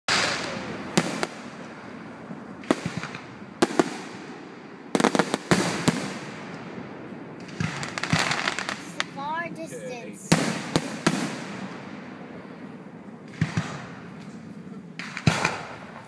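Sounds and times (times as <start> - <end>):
fireworks bangs with crackling: 0.1 - 6.8, 7.4 - 9.3, 10.2 - 12.4, 13.3 - 16.0.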